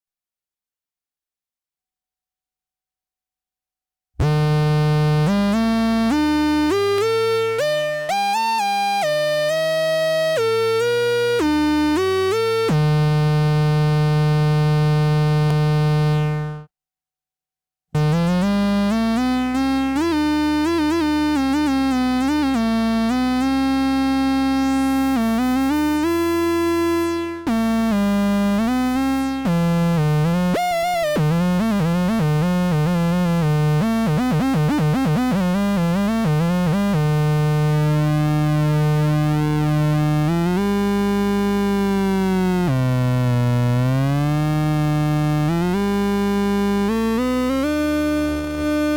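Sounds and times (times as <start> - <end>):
buzzy analog synthesizer notes: 4.2 - 16.7, 18.0 - 48.9.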